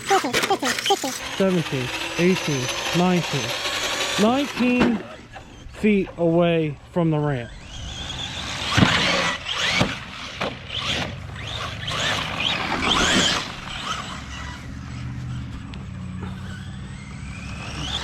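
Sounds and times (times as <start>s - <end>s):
electric toy truck motor whining: 0.0s - 6.4s, 7.2s - 18.0s.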